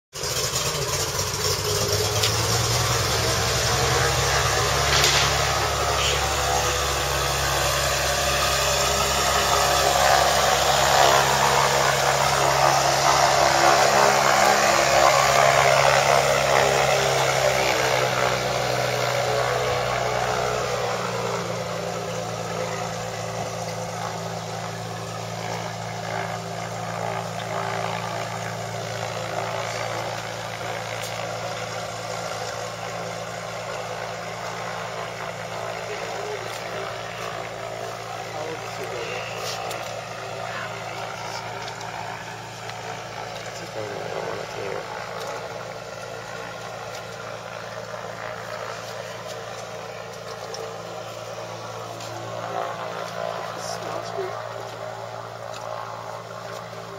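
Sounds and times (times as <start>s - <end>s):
floatplane engine and propeller: 0.1s - 56.9s.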